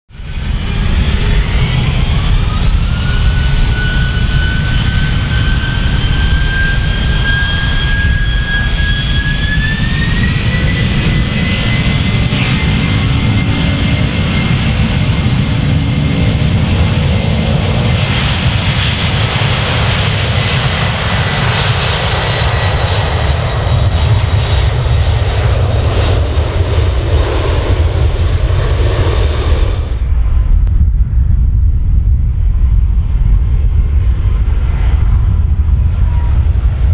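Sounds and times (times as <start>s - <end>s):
distant jet rumble: 0.1s - 36.9s
jet engines spooling up: 0.2s - 31.5s.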